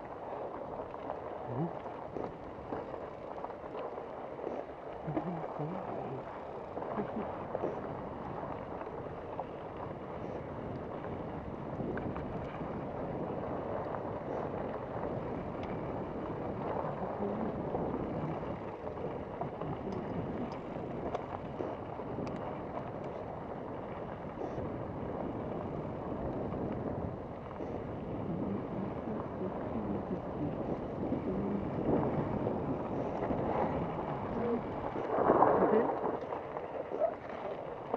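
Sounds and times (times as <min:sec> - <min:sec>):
wind on microphone: 0:00.0 - 0:37.9.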